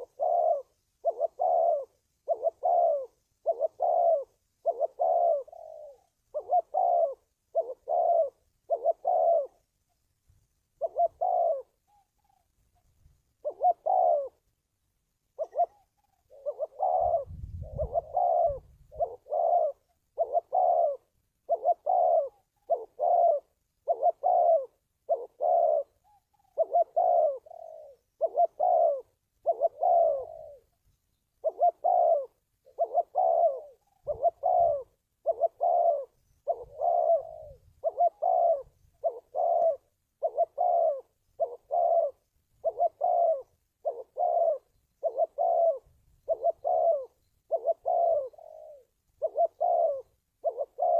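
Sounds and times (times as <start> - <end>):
dove cooing: 0.0 - 50.9.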